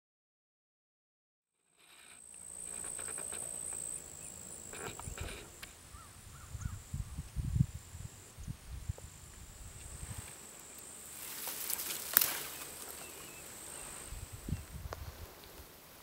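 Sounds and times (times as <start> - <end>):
high-pitched insect trill: 1.7 - 15.9.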